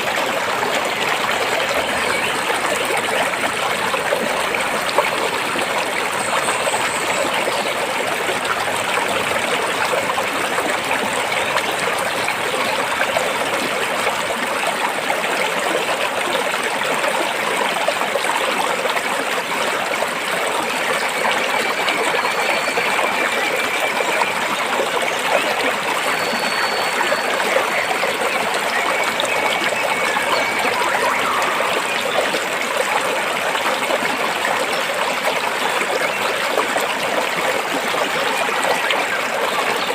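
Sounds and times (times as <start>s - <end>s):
stream flowing between rocks: 0.0s - 39.9s.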